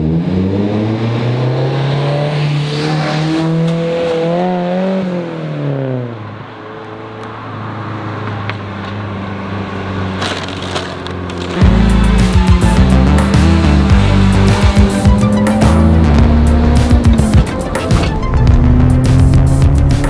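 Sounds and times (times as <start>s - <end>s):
car engine passing by: 0.0s - 20.0s.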